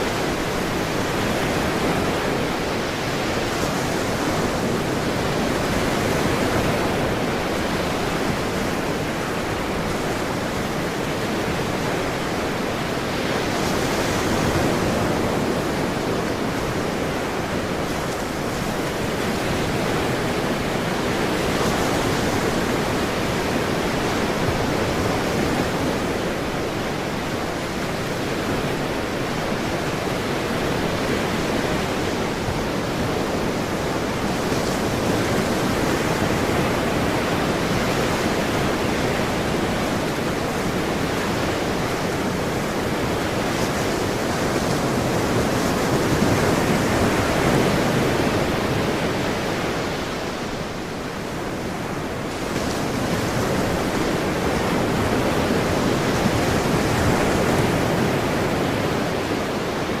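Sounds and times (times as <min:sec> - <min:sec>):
ocean waves washing ashore: 0:00.0 - 1:00.0.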